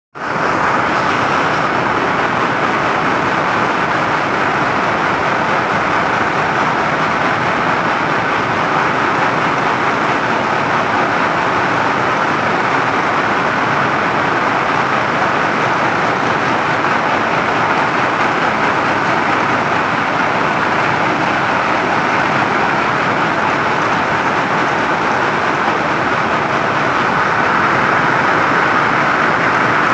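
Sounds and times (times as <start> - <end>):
weaving loom running: 0.2 - 29.9.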